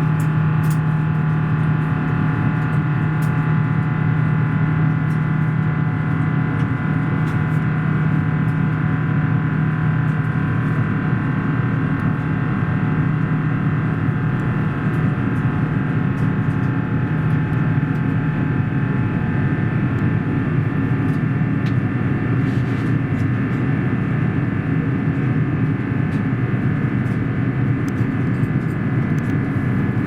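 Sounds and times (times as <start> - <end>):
jet engines droning in cabin: 0.0 - 30.0.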